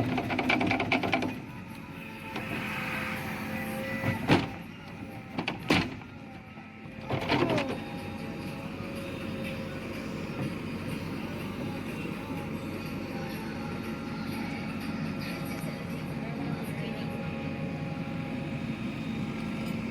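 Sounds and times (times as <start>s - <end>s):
construction machine engine running: 0.0s - 19.9s.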